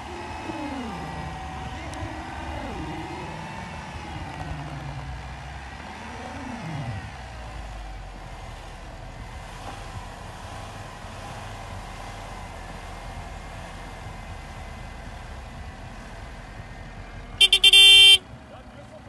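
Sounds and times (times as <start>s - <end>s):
vehicle engines under load: 0.0s - 19.0s.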